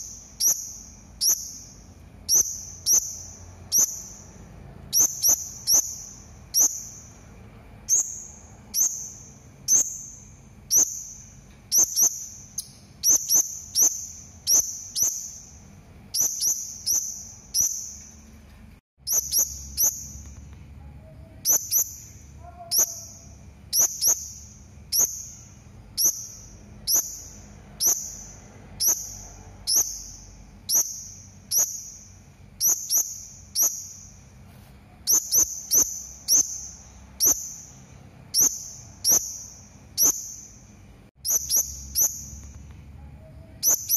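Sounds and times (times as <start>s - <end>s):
parrot high-pitched calls: 0.0s - 7.2s, 7.9s - 15.5s, 19.1s - 20.2s, 21.0s - 34.1s, 35.0s - 40.5s, 41.2s - 43.9s.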